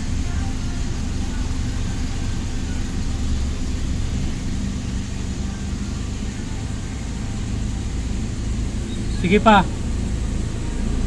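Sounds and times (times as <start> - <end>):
engine idling low: 0.0 - 11.0.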